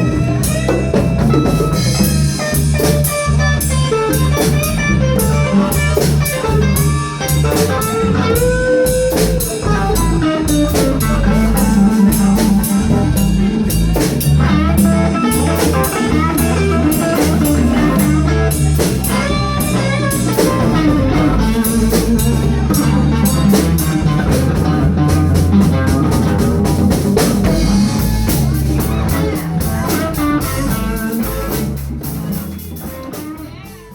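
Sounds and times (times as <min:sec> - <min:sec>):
blues band playing: 0:00.0 - 0:33.9
guitar with bent sliding notes: 0:00.0 - 0:33.9.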